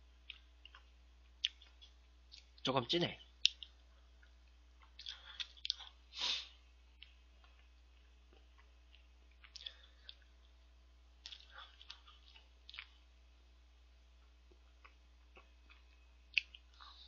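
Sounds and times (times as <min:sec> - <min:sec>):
person chewing: 0:00.2 - 0:02.6, 0:03.4 - 0:10.6, 0:11.2 - 0:13.1, 0:14.2 - 0:17.0.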